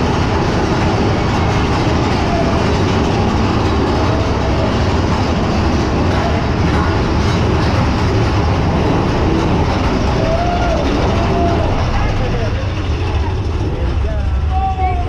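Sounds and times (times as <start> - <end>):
roller coaster wheels rumbling: 0.0 - 15.0.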